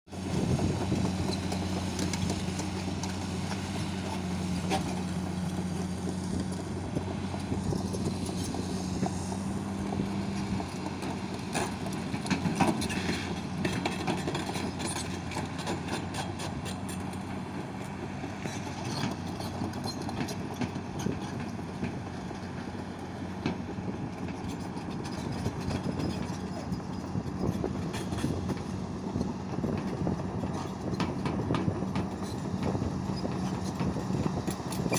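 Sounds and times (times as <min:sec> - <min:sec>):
excavator diesel engine humming: 0:00.1 - 0:34.9.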